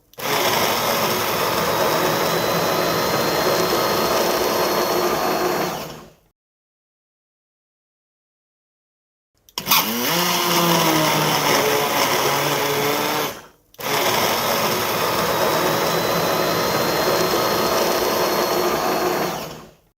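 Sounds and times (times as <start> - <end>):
electric blender running: 0.1 - 6.2, 9.6 - 19.8.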